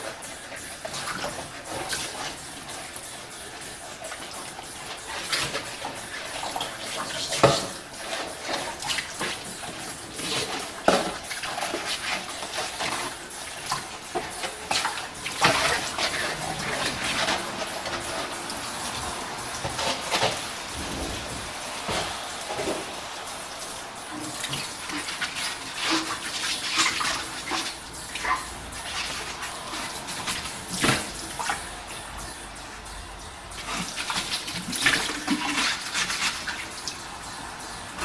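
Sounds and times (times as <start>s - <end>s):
water running from a tap: 0.0s - 38.0s.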